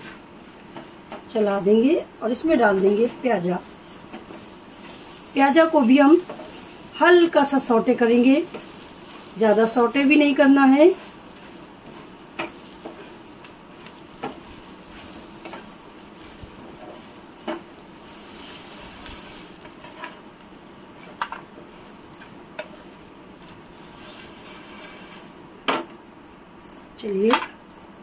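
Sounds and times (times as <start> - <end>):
onions sizzling in a pan: 0.0 - 26.1.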